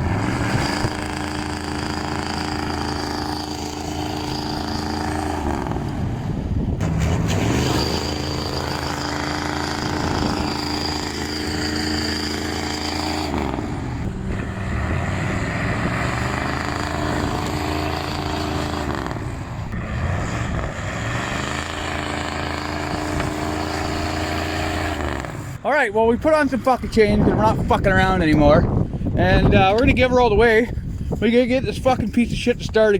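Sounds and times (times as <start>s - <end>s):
diesel truck engine under load: 0.0s - 32.9s.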